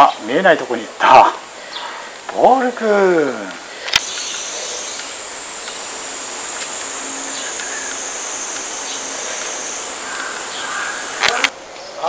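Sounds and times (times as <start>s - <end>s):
high-pitched insect chorus: 0.0s - 12.0s
outdoor hiss: 0.0s - 12.0s.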